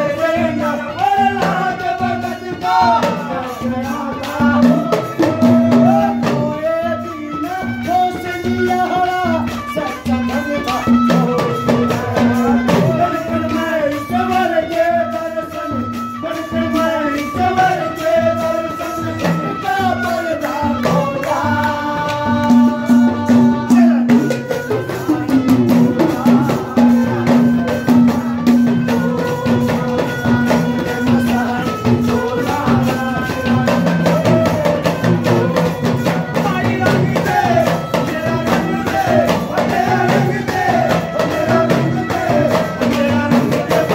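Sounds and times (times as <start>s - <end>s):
rattling hand percussion: 0.0s - 43.9s.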